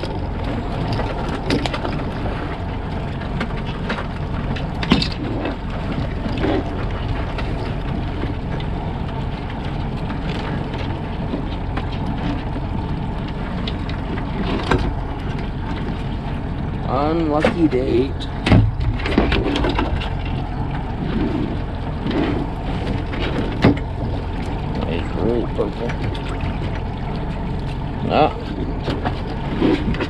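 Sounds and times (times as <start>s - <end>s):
boat motor running: 0.0s - 30.0s
wind and water noise: 0.0s - 30.0s.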